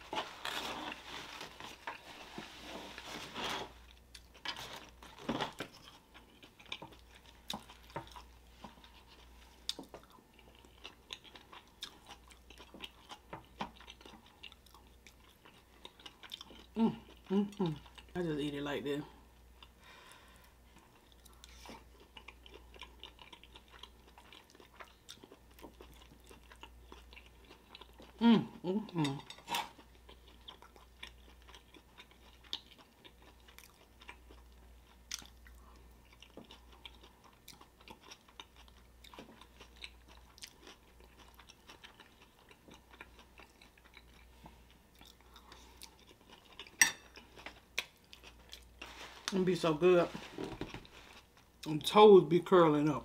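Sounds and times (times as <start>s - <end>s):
person chewing with wet mouth sounds: 3.8s - 18.2s, 19.4s - 19.8s, 20.4s - 52.0s.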